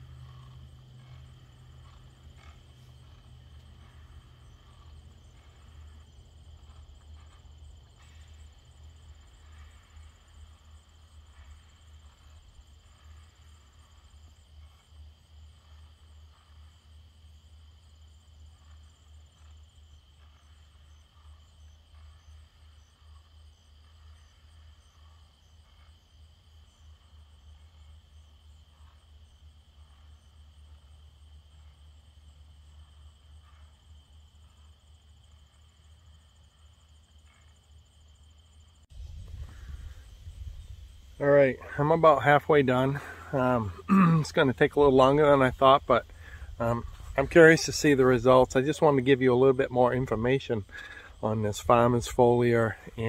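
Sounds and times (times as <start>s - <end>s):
insects trilling: 0.0s - 53.0s
low steady rumble: 0.0s - 53.0s.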